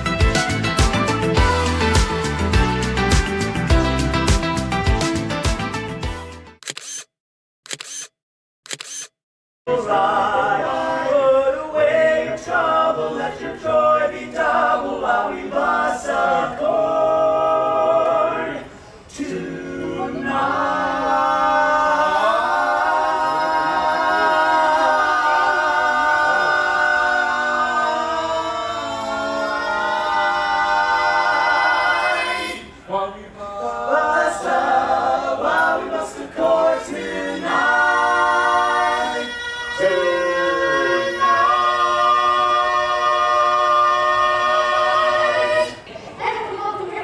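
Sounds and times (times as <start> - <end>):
a cappella group singing: 0.0 - 5.3, 9.7 - 46.2.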